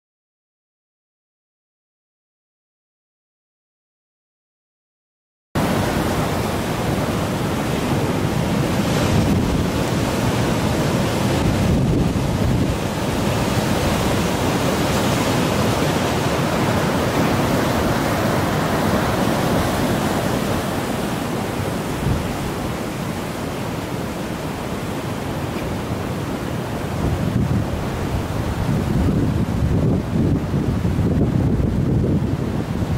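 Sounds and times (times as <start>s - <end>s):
storm waves breaking: 5.6s - 32.9s
wind buffeting microphone: 5.6s - 32.9s.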